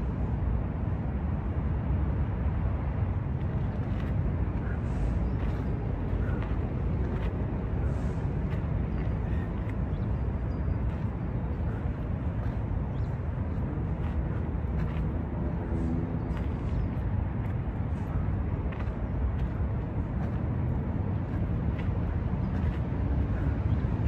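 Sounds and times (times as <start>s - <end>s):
distant city traffic: 0.0s - 24.0s
wind: 0.0s - 24.0s.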